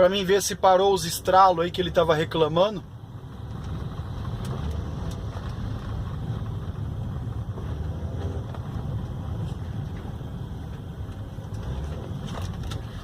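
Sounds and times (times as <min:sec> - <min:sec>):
tyre and engine rumble in car: 0:00.0 - 0:13.0.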